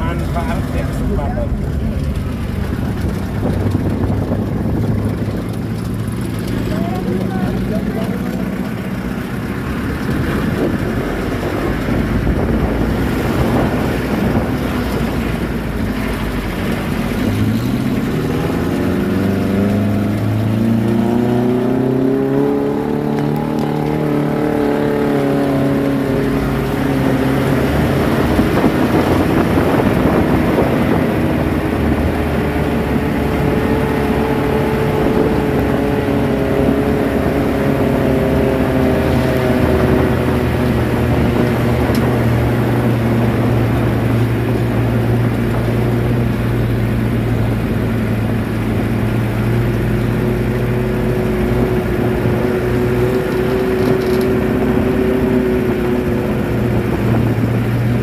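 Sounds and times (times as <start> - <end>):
car engine revving while driving: 0.0 - 58.0
steady rushing noise: 0.0 - 58.0.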